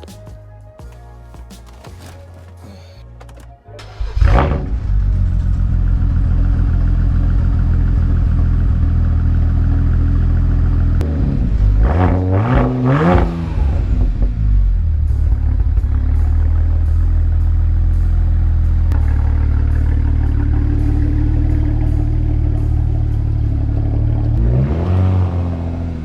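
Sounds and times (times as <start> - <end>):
car engine revving: 1.7 - 26.0.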